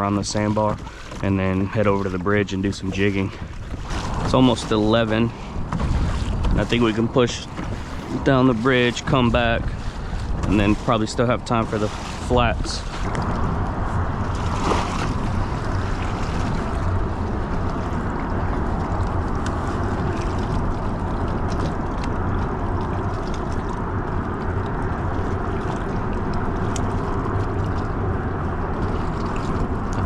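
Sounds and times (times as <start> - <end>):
kayak rushing through water: 0.0 - 30.0.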